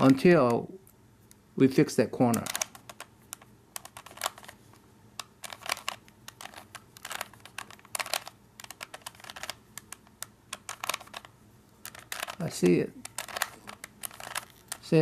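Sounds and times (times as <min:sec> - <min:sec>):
rubik's cube plastic clicks: 0:02.3 - 0:04.6, 0:05.2 - 0:15.0.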